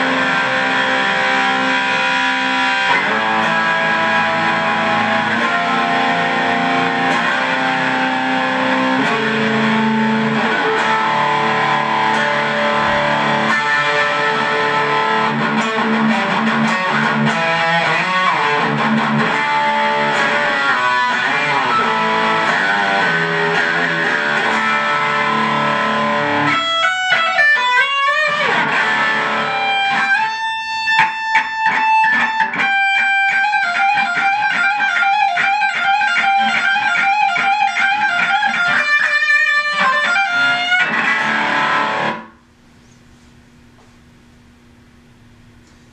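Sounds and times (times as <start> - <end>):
distorted electric guitar: 0.0 - 42.5.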